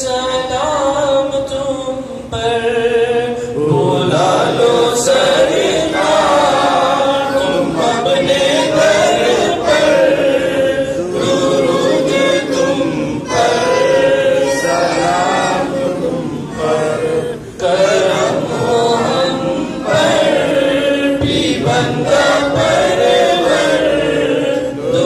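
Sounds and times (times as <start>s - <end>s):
group of voices chanting in unison: 2.6s - 25.0s.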